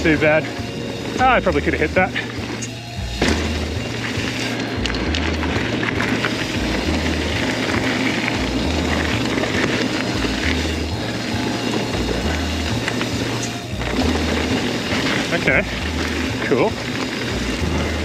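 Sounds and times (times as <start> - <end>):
background music with bass line: 0.0 - 18.0
bike clicks and rattles: 0.0 - 18.0
bike tyre noise on dirt: 0.0 - 18.0.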